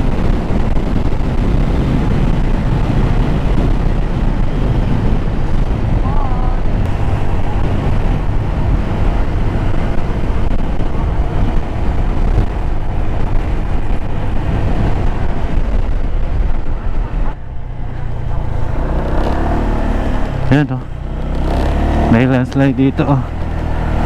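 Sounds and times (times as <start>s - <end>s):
motorcycle engine running: 0.0s - 24.0s
wind rushing over microphone: 0.0s - 24.0s.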